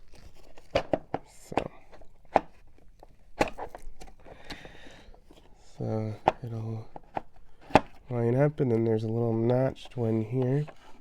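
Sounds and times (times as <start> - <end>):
plastic scraping: 0.0 - 11.0.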